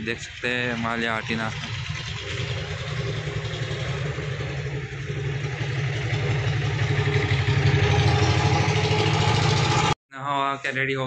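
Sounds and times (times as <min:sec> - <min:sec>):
engine running with low throb: 0:00.0 - 0:10.0.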